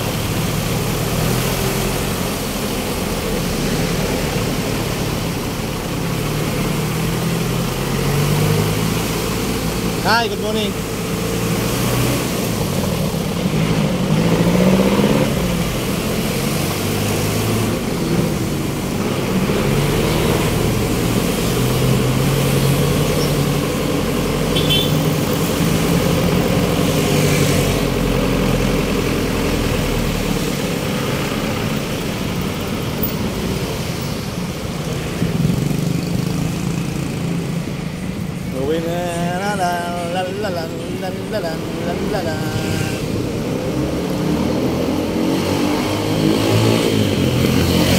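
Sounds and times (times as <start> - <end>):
vehicles passing: 0.0 - 47.9.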